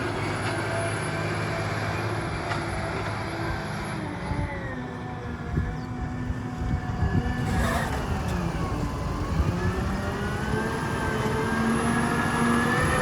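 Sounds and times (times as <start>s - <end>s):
vehicle engine running under load: 0.0s - 13.0s.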